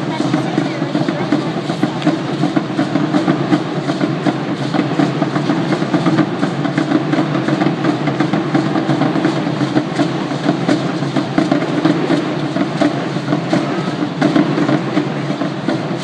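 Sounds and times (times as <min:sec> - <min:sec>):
fast even drumbeat: 0:00.0 - 0:16.0.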